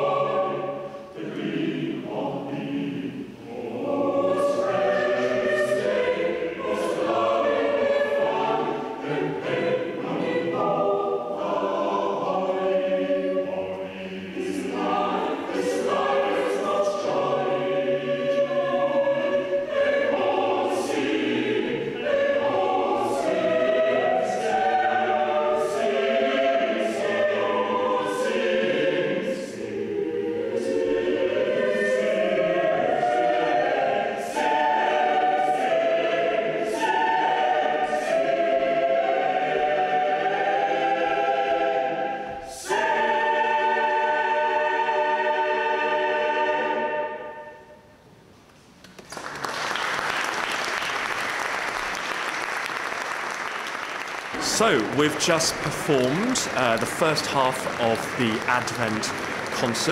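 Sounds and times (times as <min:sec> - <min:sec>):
choir singing unaccompanied: 0:00.0 - 0:47.9, 0:53.3 - 0:59.9.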